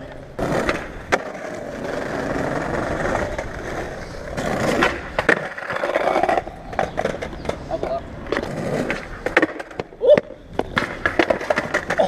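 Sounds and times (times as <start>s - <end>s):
skateboard clacks: 0.0s - 12.0s
skateboard wheels rolling on pavement: 0.0s - 12.0s.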